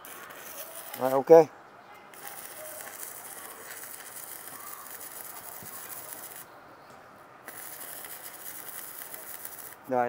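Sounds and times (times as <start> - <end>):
welding arc hissing: 0.0 - 1.5, 2.1 - 6.5, 7.5 - 10.0.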